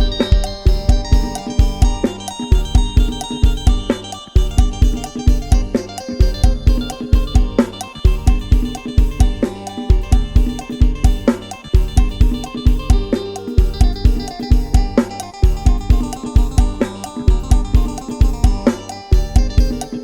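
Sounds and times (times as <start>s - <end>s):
drum kit and bass beat: 0.0s - 20.0s.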